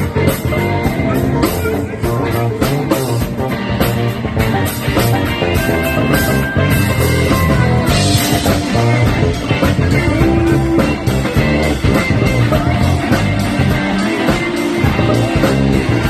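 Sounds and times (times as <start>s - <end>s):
electric bass solo: 0.0s - 16.0s
live rock band playing: 0.0s - 16.0s.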